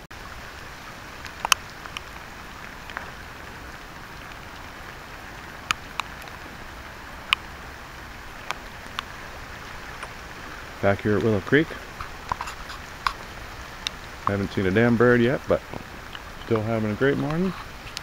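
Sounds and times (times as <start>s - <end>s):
steady rain in woodland: 0.0s - 18.0s.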